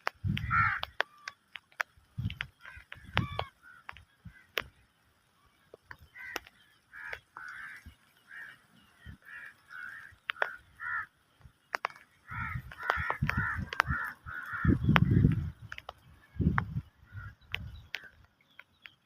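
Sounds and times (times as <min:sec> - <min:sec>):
sharp clicks: 0:00.0 - 0:04.8, 0:05.7 - 0:07.9, 0:09.6 - 0:19.0.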